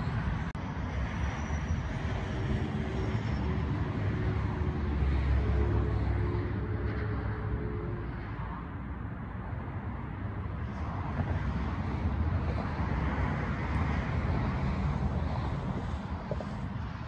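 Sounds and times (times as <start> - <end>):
vehicle passing on road: 0.0 - 17.0.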